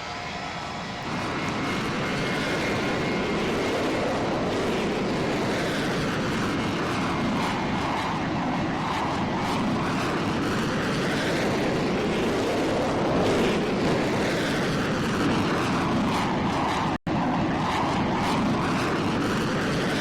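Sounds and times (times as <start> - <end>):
aircraft engine roar: 0.0 - 20.0.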